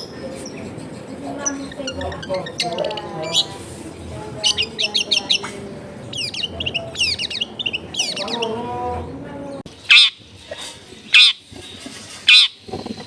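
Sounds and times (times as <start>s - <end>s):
bird calling with sharp chirps: 1.4s - 8.7s, 9.7s - 13.0s.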